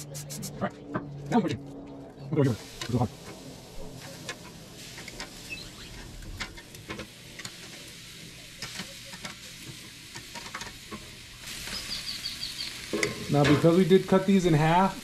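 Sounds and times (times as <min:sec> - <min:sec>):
chicken sizzling on a grill: 0:02.5 - 0:15.0.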